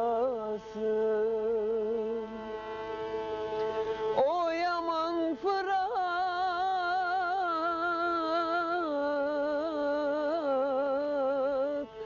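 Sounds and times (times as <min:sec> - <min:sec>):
person singing long ornamented note: 0:00.0 - 0:12.0
violin holding steady note: 0:00.0 - 0:12.0.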